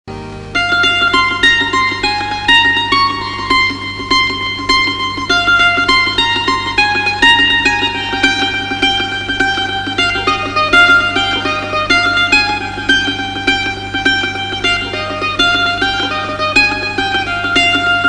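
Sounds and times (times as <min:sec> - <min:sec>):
plucked string notes: 0:00.1 - 0:18.0
steady low drone: 0:00.1 - 0:18.0.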